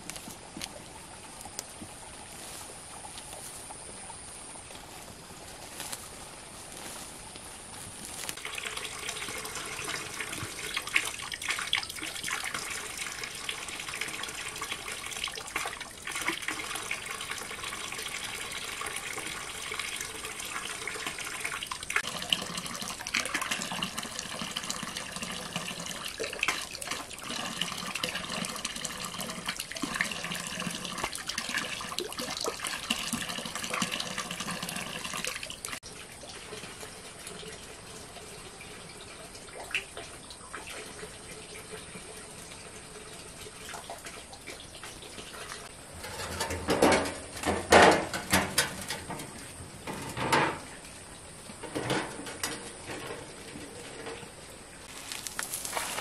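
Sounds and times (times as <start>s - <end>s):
water pouring into a tank: 8.4s - 54.2s, 54.8s - 56.0s.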